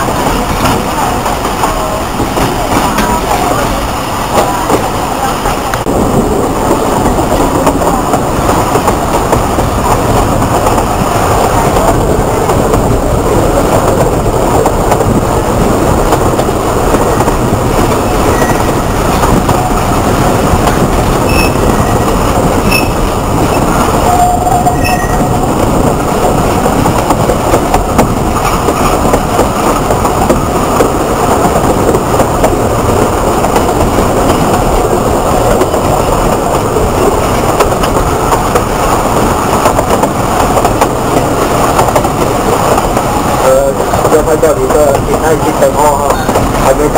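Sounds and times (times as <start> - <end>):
train wheels rumbling: 0.0 - 46.9.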